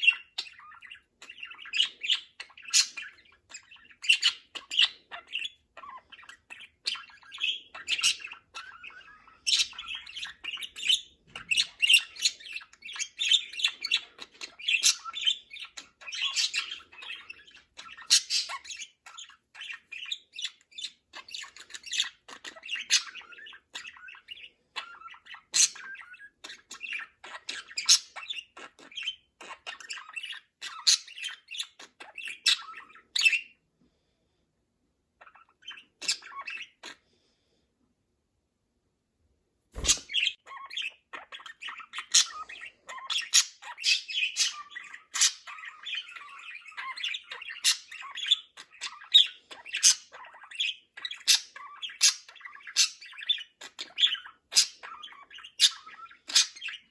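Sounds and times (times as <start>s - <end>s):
budgerigars chattering and warbling: 0.0s - 33.6s, 35.2s - 37.0s, 39.8s - 56.9s.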